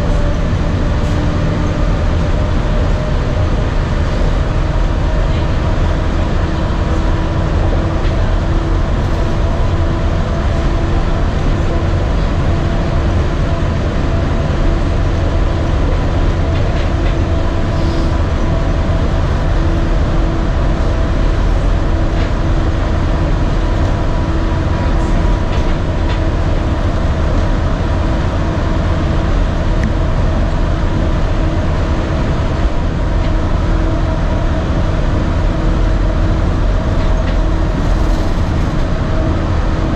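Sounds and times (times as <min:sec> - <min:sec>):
monorail rumbling: 0:00.0 - 0:39.9.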